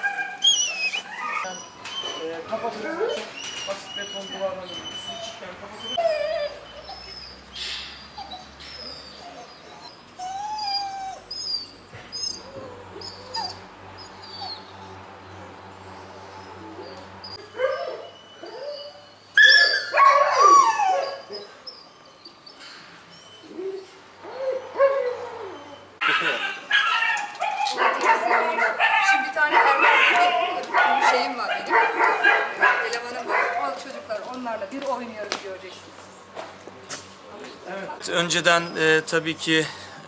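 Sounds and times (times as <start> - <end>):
dogs whining and yipping: 0.0 - 33.8
dogs yelping and howling: 0.0 - 33.9.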